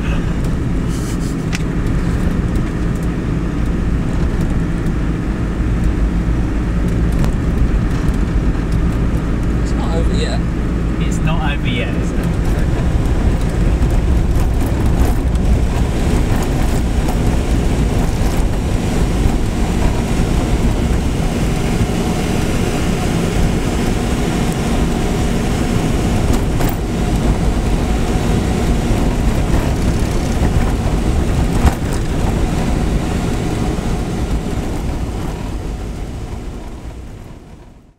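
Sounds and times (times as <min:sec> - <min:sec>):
vehicle engine and road rumble: 0:00.0 - 0:37.9.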